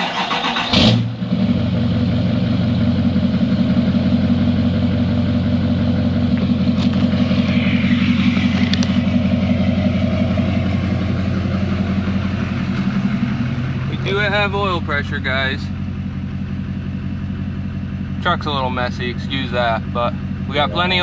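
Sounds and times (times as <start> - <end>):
diesel engine cranking and idling: 0.0 - 21.0.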